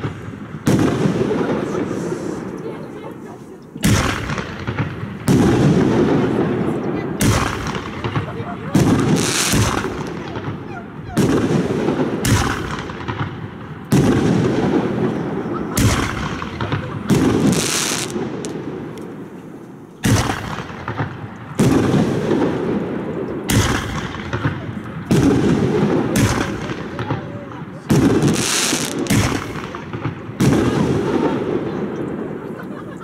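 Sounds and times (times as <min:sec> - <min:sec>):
fireworks bangs: 0:00.0 - 0:33.0
fireworks rumble: 0:00.0 - 0:33.0.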